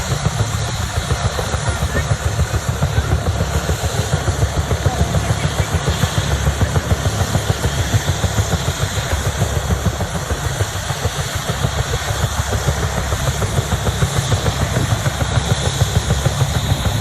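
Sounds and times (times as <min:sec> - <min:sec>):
helicopter rotor beating: 0:00.0 - 0:17.0
turbine engine hiss: 0:00.0 - 0:17.0.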